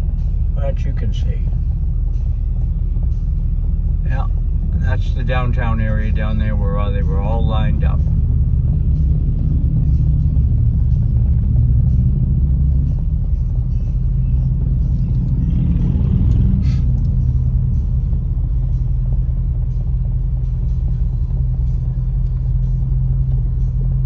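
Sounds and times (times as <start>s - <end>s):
car engine rumble: 0.0s - 24.0s
road noise inside car: 0.0s - 24.0s.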